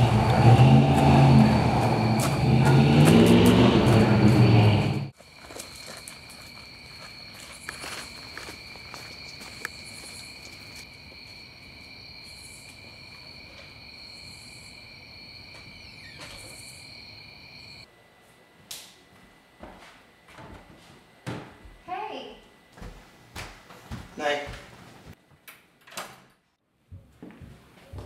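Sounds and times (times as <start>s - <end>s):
crickets and night insects: 0.0s - 23.0s.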